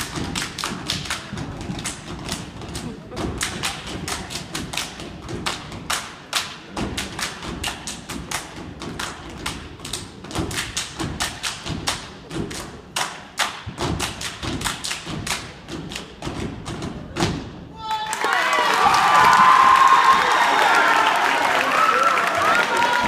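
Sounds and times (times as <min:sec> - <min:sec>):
hands clapping: 0:00.0 - 0:16.1, 0:17.9 - 0:23.0.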